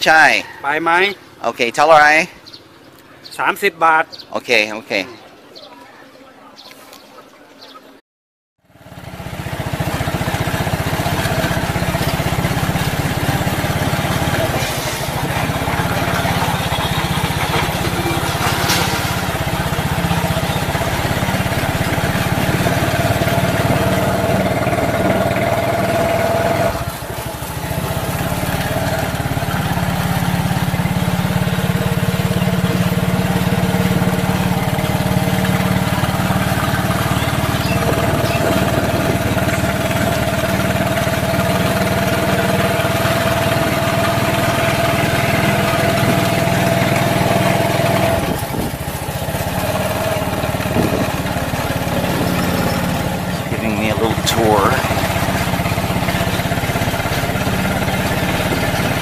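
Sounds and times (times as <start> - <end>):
motorcycle engine running: 8.6 - 59.0.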